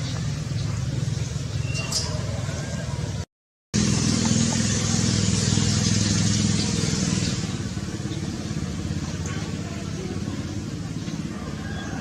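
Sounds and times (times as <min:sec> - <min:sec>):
vehicle engine running: 0:00.0 - 0:03.2, 0:03.8 - 0:12.0.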